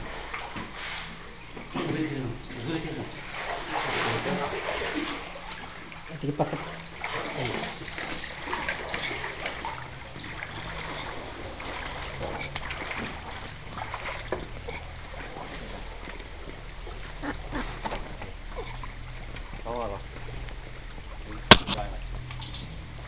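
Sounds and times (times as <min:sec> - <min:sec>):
floodwater splashing: 0:00.0 - 0:23.0.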